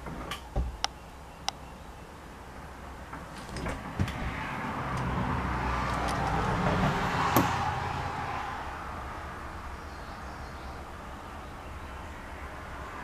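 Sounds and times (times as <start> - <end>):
road vehicle passing by: 2.4 - 13.0.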